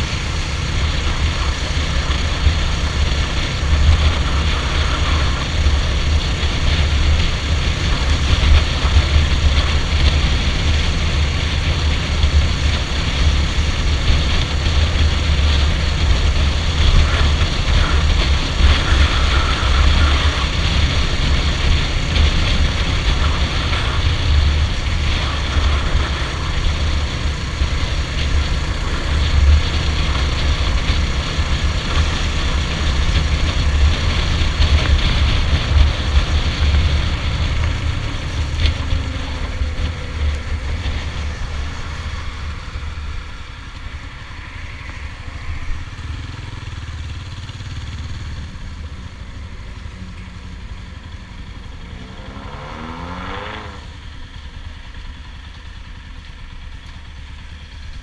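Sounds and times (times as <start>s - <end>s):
motorcycle running: 0.0s - 58.0s.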